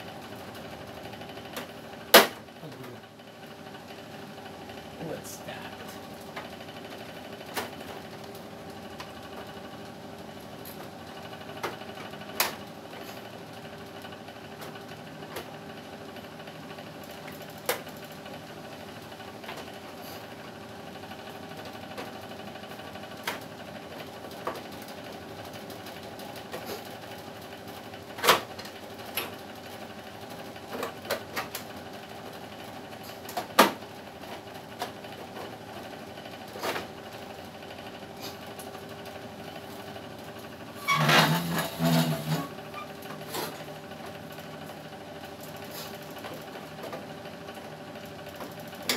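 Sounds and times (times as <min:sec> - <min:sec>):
air conditioner hum: 0:00.0 - 0:48.9.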